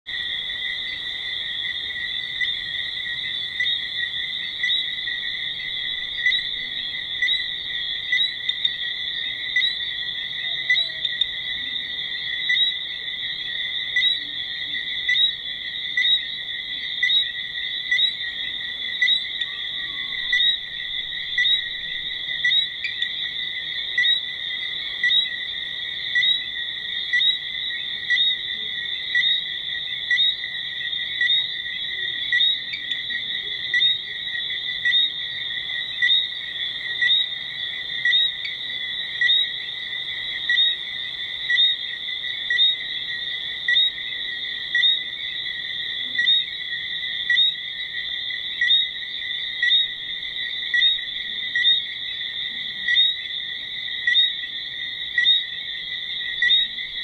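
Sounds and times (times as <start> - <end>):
insects trilling: 0.1 - 57.0.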